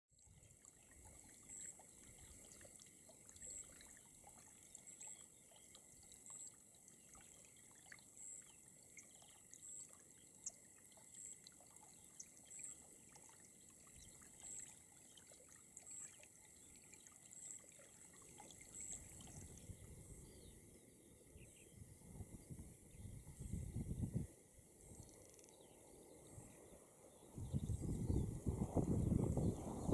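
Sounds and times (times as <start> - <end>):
faint outdoor hiss: 0.2 - 29.9.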